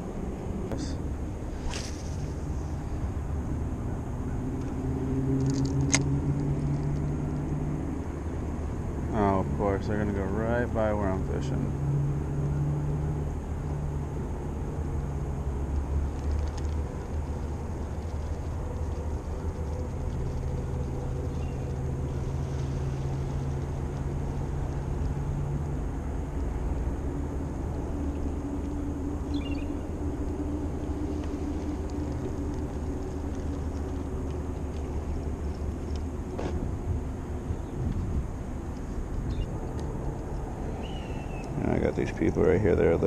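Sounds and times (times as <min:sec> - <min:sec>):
motorboat engine passing: 0:00.0 - 0:43.0.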